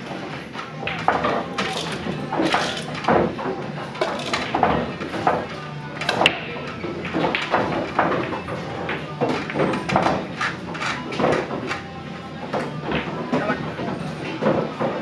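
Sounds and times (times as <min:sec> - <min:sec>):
pool balls clicking: 0:00.0 - 0:15.0.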